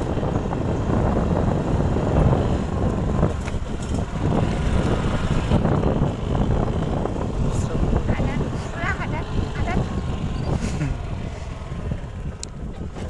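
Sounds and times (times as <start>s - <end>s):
motorcycle engine: 0.0s - 13.0s
wind buffeting microphone: 0.0s - 13.0s.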